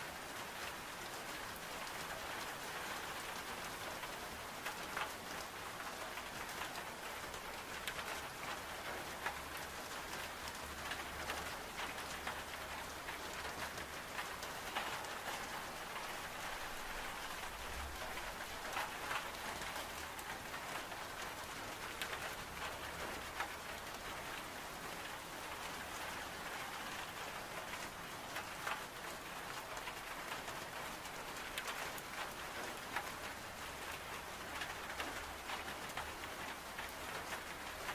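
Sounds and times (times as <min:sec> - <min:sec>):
rain on window glass: 0:00.0 - 0:37.9.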